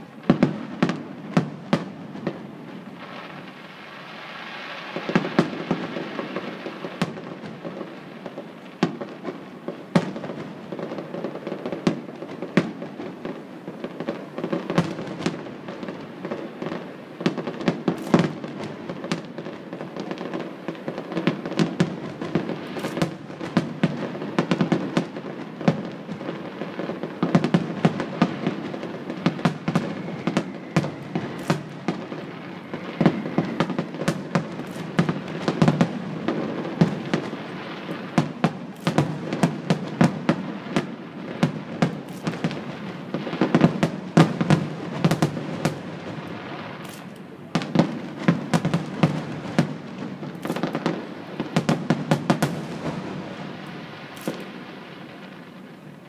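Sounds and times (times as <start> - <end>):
fireworks bursting with sharp bangs: 0.0 - 56.0.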